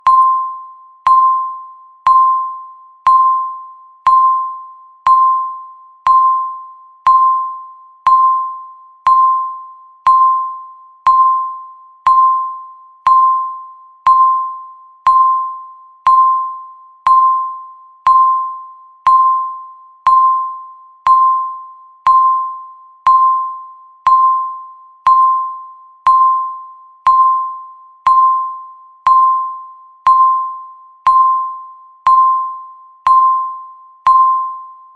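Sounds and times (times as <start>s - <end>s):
bell-like electronic timer beeps: 0.0s - 34.9s.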